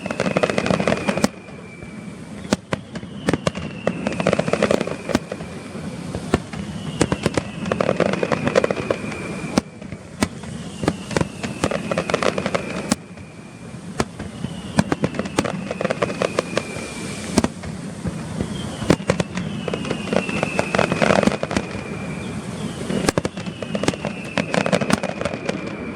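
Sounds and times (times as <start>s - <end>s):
firework whistle: 0.0s - 25.9s
fireworks bangs and crackling: 0.0s - 25.9s.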